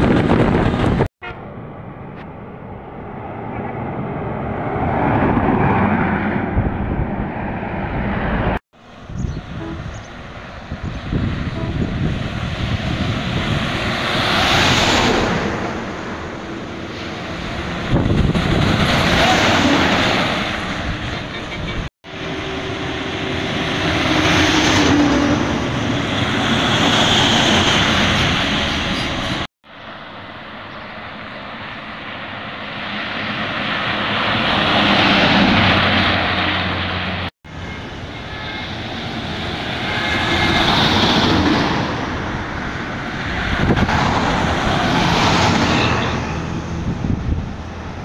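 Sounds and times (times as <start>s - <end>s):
buses passing at speed: 0.0s - 48.0s.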